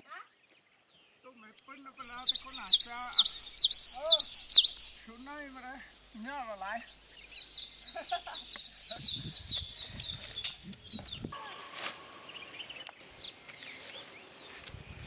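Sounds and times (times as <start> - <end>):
songbird singing high falling notes: 0.2 - 5.4, 6.1 - 15.0.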